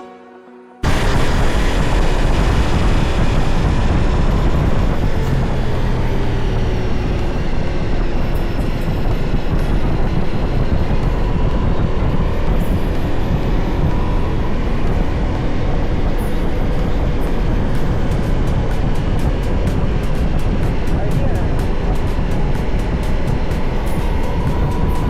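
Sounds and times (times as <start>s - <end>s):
motorcycle engine running: 0.8s - 25.0s
wind rushing over microphone: 0.8s - 25.0s.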